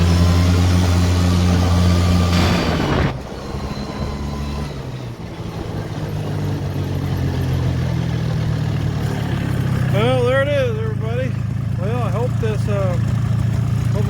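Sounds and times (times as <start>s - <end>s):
two-stroke atv engine running: 0.0s - 14.0s.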